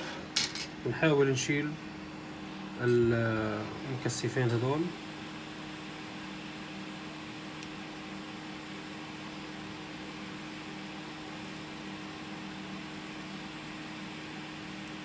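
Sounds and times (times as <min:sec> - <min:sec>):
hot-air blower hissing: 0:00.0 - 0:15.0
low fan hum: 0:00.0 - 0:15.0.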